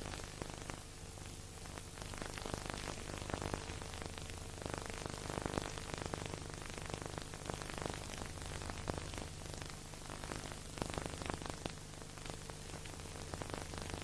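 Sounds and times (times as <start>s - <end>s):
hiss with crackles and clicks: 0.0s - 14.0s.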